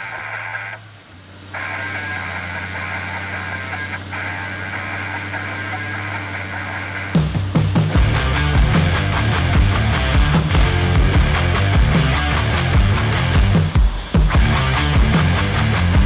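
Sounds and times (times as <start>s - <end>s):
loud rock music: 1.6s - 16.0s.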